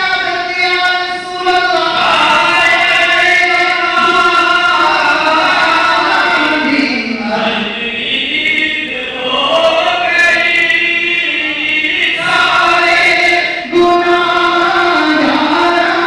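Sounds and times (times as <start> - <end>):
crowd chanting in unison: 0.0 - 16.0.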